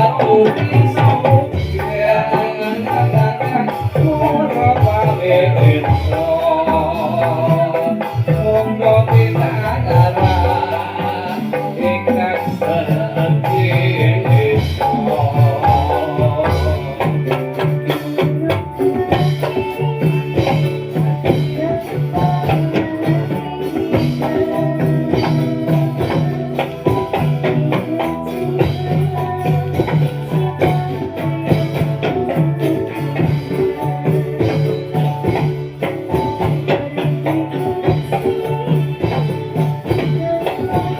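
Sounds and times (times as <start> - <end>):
drum strikes: 0.0 - 40.9.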